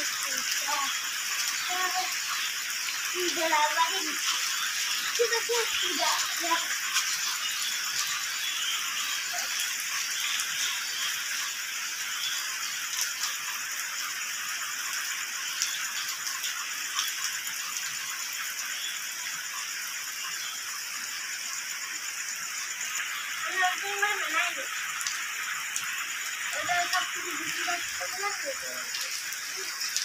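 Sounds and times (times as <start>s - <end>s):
steady rain falling: 0.0s - 30.0s
water drops ticking: 0.0s - 30.0s.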